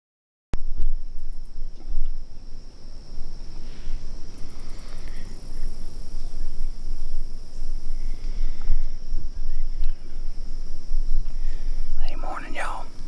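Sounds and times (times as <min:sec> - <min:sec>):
insects droning: 0:00.6 - 0:13.0
low rumbling microphone noise: 0:00.6 - 0:13.0.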